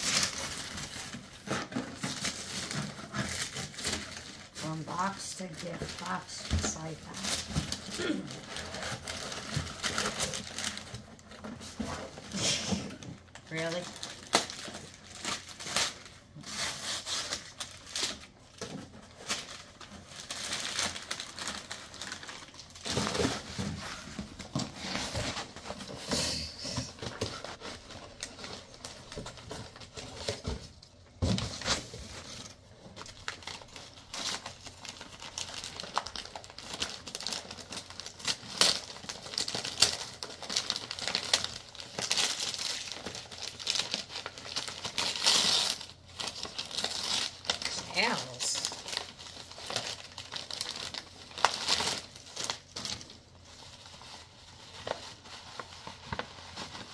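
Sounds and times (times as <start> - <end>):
wrapping paper rustling and tearing: 0.0 - 56.9.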